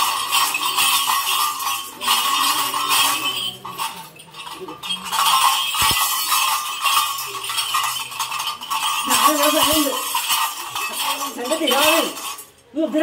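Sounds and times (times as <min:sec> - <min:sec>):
bells ringing and clinking: 0:00.0 - 0:13.0.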